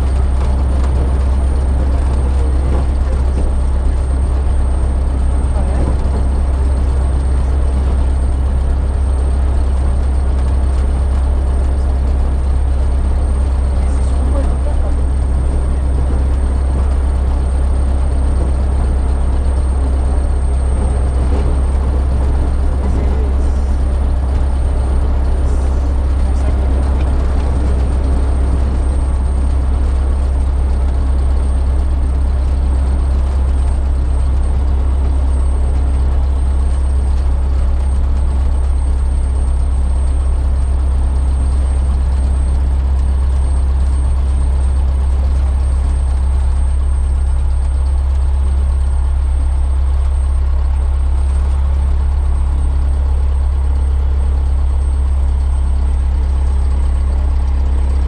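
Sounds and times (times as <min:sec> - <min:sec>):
airplane engine and propeller drone: 0:00.0 - 0:58.0.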